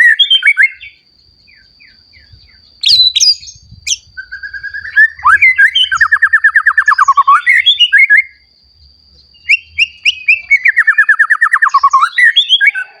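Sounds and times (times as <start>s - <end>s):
sharp higher bird calls: 0.0s - 8.4s, 9.3s - 13.0s
bird singing: 0.0s - 13.0s.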